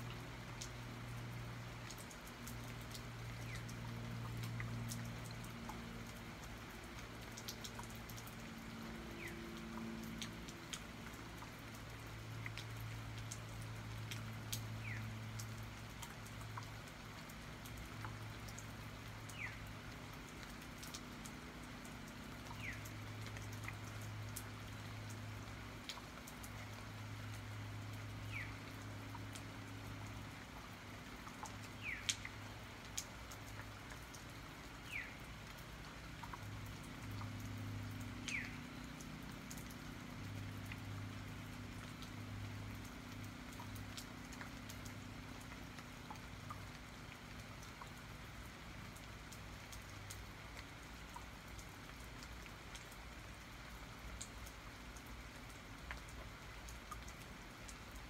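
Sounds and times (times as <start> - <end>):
rain dripping: 0.0 - 58.0.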